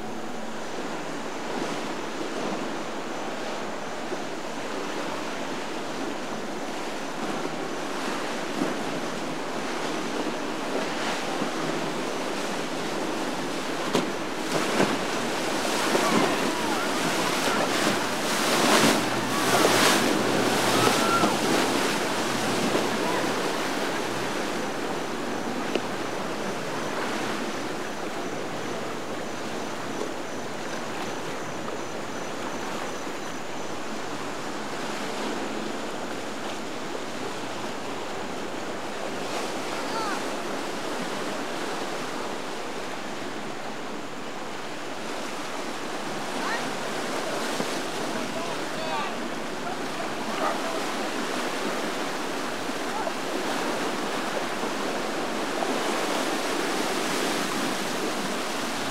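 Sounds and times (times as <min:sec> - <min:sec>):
churning water rushing: 0:00.0 - 0:58.9
waves slapping: 0:00.0 - 0:58.9.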